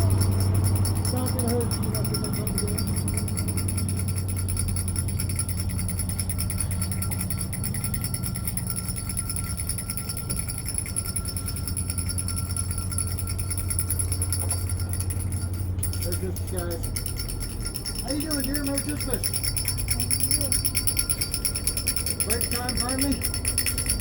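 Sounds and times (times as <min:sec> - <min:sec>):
handbells ringing rapidly: 0:00.0 - 0:24.0
steady low hum: 0:00.0 - 0:24.0.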